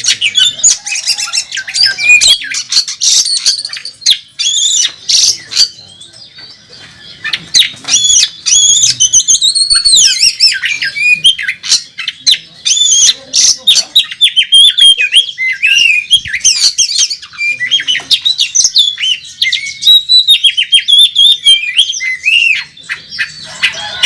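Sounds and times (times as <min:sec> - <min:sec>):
songbird singing fast song: 0:00.0 - 0:24.0.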